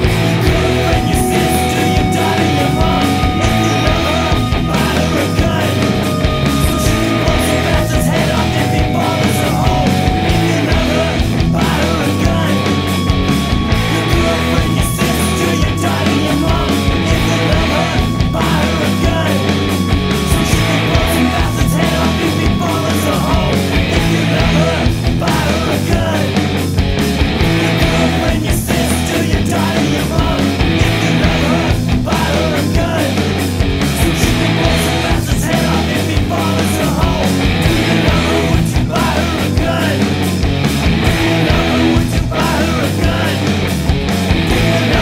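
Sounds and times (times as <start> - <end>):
bass guitar: 0.0 - 45.0
distorted electric guitars: 0.0 - 45.0
drums hitting: 0.0 - 45.0
punk rock band playing: 0.0 - 45.0.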